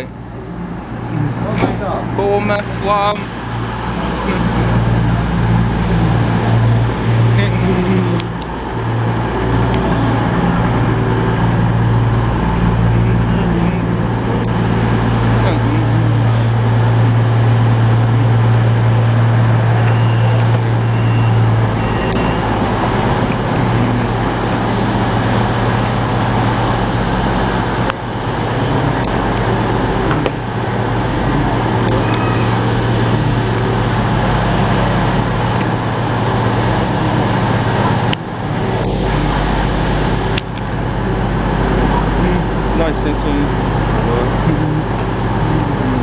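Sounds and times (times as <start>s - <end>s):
train running close by: 0.0s - 46.0s.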